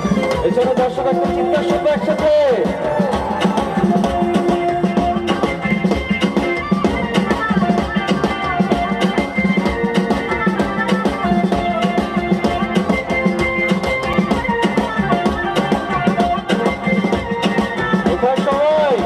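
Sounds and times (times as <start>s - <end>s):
drum kit beat: 0.0s - 19.0s
electric guitar: 0.0s - 19.0s
keyboard: 0.0s - 19.0s.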